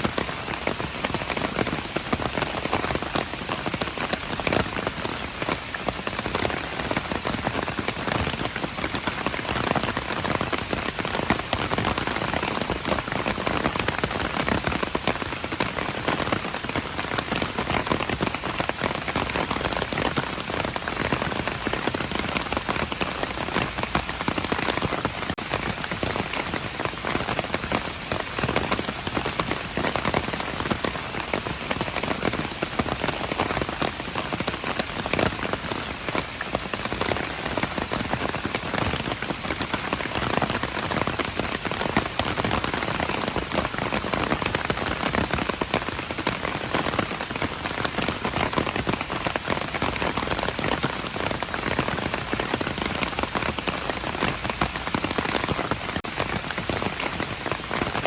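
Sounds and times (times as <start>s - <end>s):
rain on hard surfaces: 0.0s - 58.0s.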